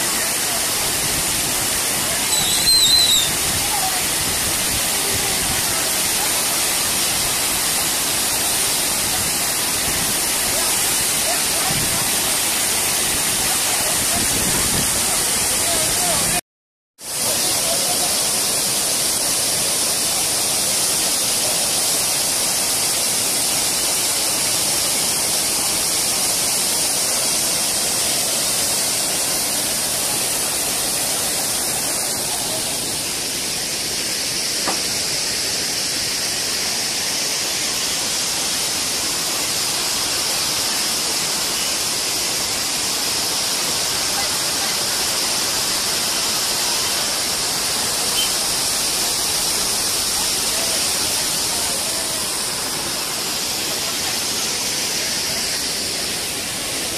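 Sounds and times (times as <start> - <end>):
waterfall rushing: 0.0 - 16.4, 17.0 - 56.9.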